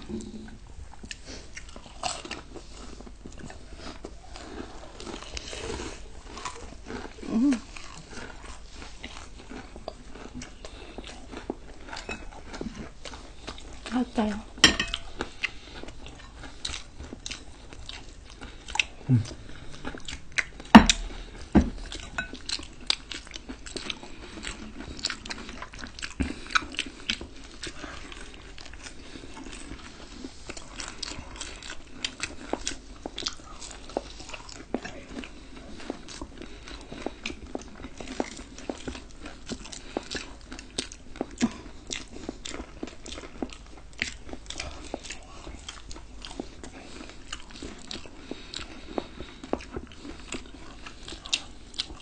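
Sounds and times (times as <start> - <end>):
crunching and chewing food: 0.0 - 52.0.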